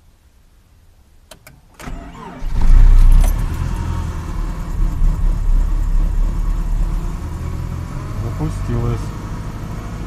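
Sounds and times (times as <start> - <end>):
car engine starting and idling: 1.3 - 10.0.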